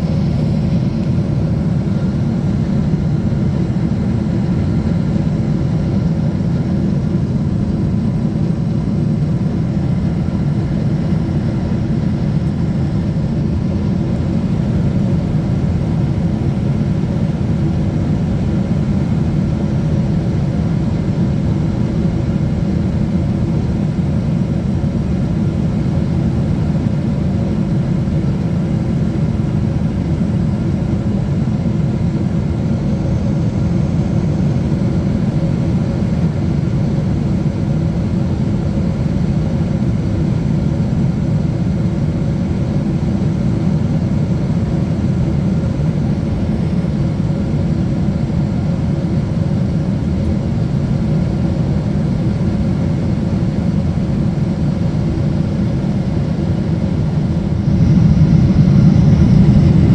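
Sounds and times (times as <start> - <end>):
airplane cabin engine noise: 0.0 - 59.9
faint hum tones: 0.0 - 59.9.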